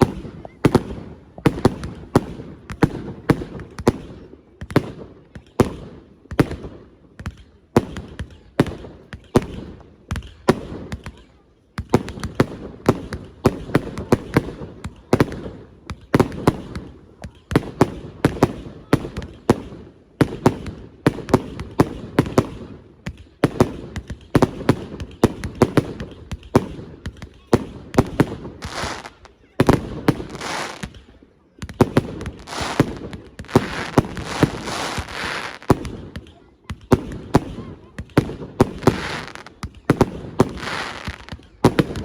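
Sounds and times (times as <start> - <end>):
fireworks exploding bangs: 0.0 - 42.0.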